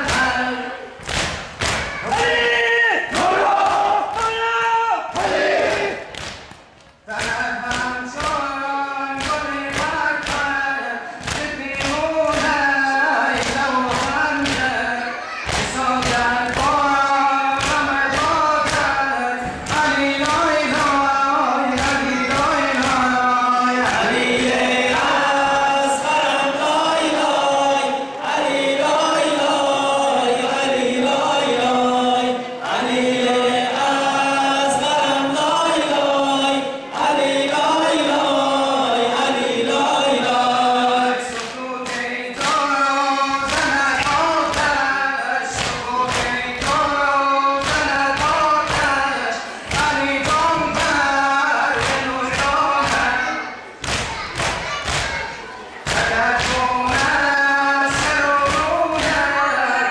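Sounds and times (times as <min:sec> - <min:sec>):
men chanting in unison: 0:01.8 - 0:06.2, 0:07.1 - 0:53.5, 0:55.8 - 0:59.9.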